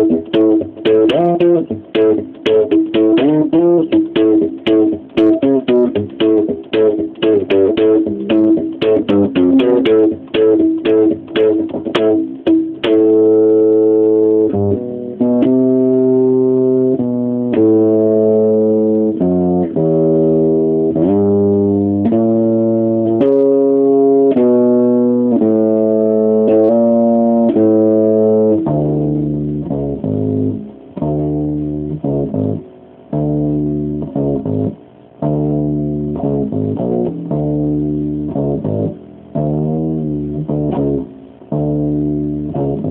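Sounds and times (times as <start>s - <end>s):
electric bass guitar riffs: 0.0s - 42.9s.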